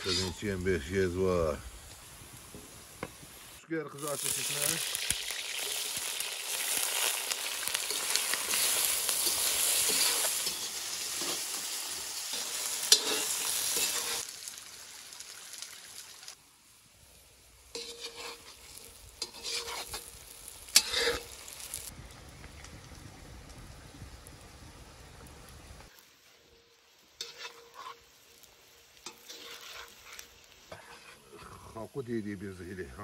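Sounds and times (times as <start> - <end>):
potatoes sizzling in hot oil: 0.0 - 33.0.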